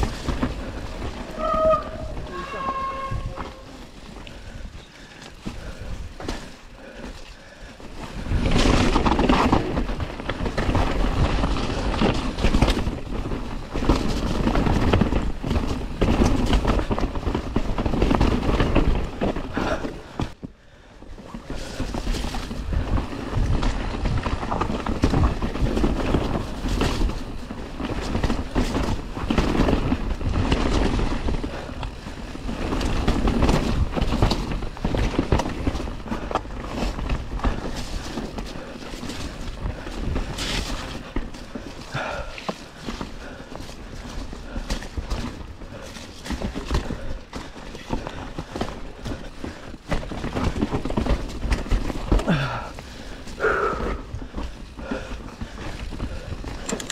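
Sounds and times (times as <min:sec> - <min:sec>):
wind noise on microphone: 0:00.0 - 0:06.6, 0:08.0 - 0:56.9
bike rattling and knocking: 0:00.0 - 0:56.9
bike tyre rumble: 0:00.0 - 0:56.9.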